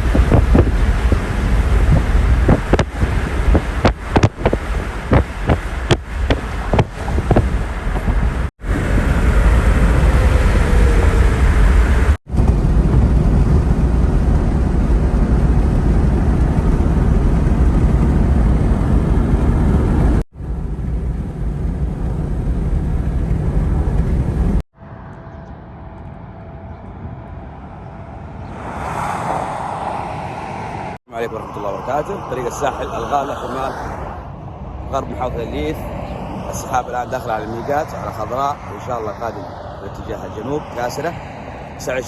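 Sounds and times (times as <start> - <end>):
wind roaring: 0.0 - 42.0.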